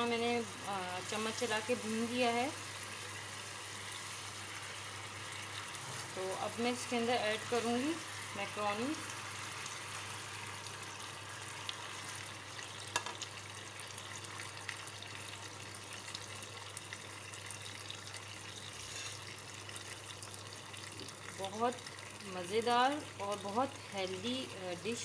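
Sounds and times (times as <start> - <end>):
sauce sizzling in a frying pan: 0.0 - 25.0
pasta stirred in pan: 1.0 - 22.2.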